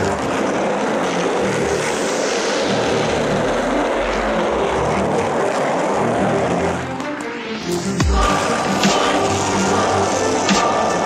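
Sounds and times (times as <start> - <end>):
skateboard wheels on rough pavement: 0.0 - 11.0.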